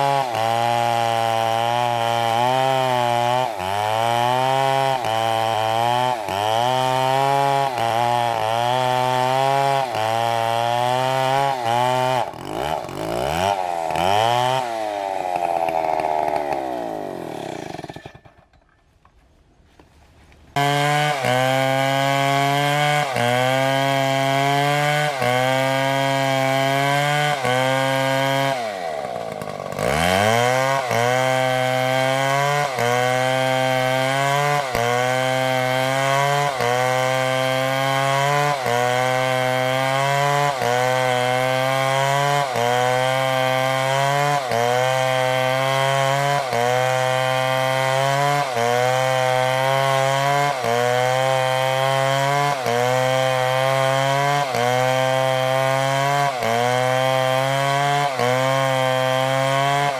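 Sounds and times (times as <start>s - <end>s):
chainsaw engine revving: 0.0s - 18.4s, 20.6s - 59.9s.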